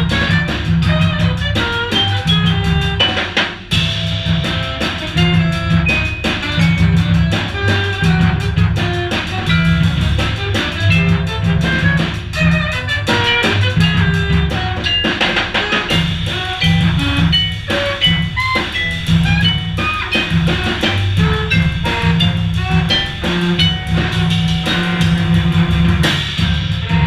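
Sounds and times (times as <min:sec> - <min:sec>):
alto saxophone: 0:00.0 - 0:03.2, 0:03.8 - 0:27.0
walking double bass: 0:00.0 - 0:15.0, 0:15.9 - 0:27.0
drum kit: 0:00.0 - 0:27.0
vibraphone notes: 0:00.0 - 0:27.0.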